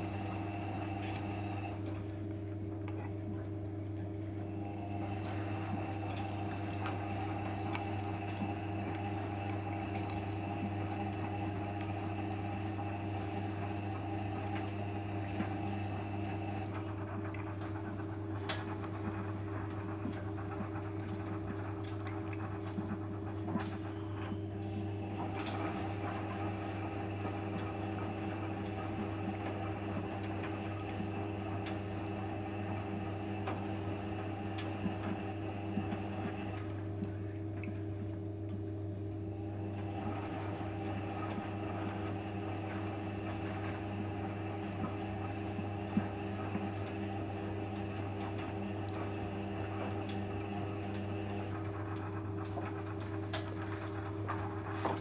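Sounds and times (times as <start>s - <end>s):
washing machine motor hum: 0.0s - 55.0s
water sloshing in washing machine: 0.0s - 55.0s.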